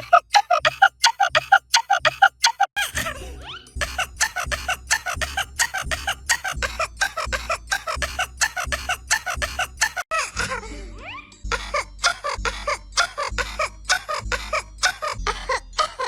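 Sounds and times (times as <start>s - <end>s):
pulsing low bass: 3.0s - 15.8s.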